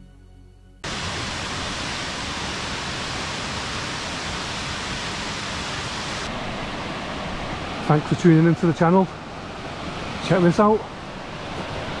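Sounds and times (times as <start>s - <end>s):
waterfall rushing: 0.8s - 12.0s.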